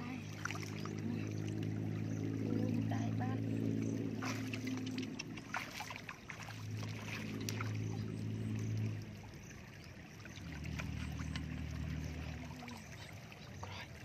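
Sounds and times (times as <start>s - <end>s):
engine drone: 0.0s - 14.0s
muddy water splashing and trickling: 0.0s - 14.0s.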